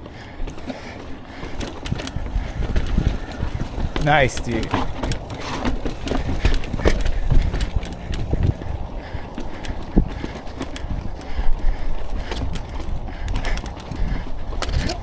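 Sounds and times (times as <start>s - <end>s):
bike rattling over rock: 0.0s - 15.0s
steady low rumble: 0.8s - 15.0s.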